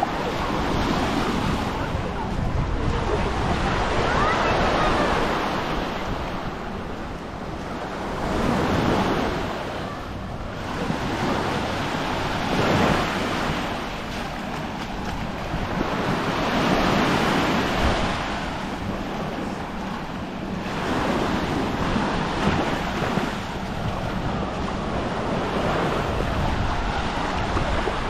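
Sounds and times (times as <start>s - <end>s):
small waves breaking on shore: 0.0s - 28.0s.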